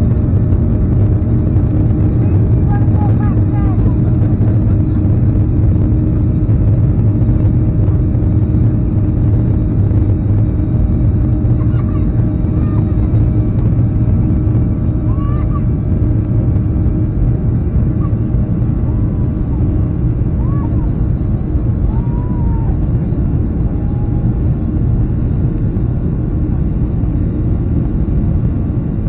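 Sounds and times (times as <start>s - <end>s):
airplane engines rumbling: 0.0s - 29.0s
constant hum: 0.0s - 29.0s.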